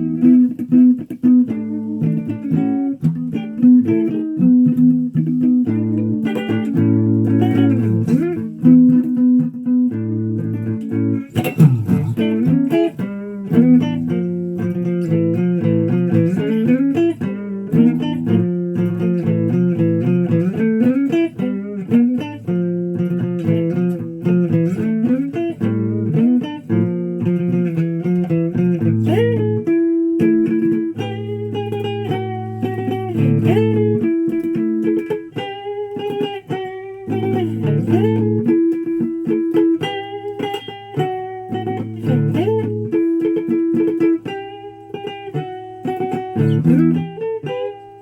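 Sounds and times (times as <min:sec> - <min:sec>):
guitar with sliding notes: 0:00.0 - 0:48.0.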